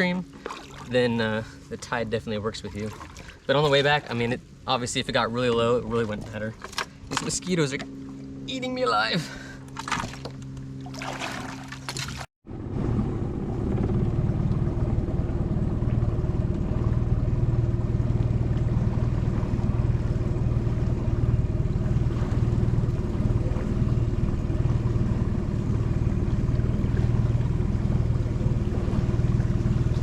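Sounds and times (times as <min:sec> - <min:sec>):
small outboard motor running: 0:00.0 - 0:30.0.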